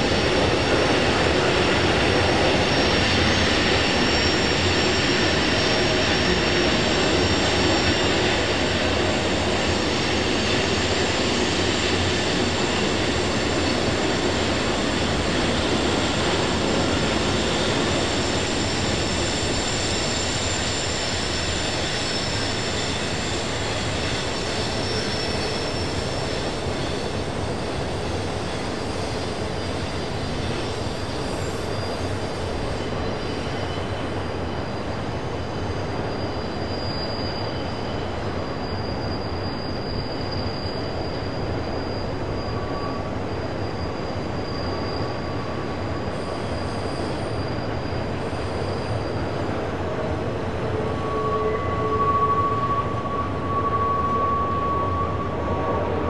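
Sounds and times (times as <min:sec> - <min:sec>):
steel wheels squealing: 0:00.0 - 0:56.0
train wheels rumbling on rail: 0:00.0 - 0:56.0.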